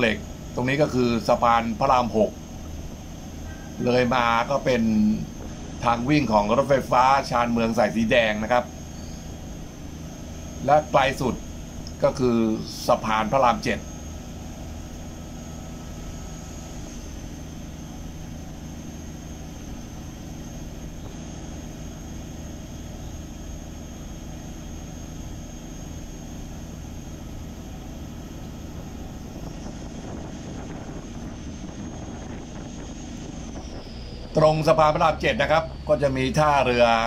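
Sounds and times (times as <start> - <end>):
boat diesel engine running: 0.0 - 37.0.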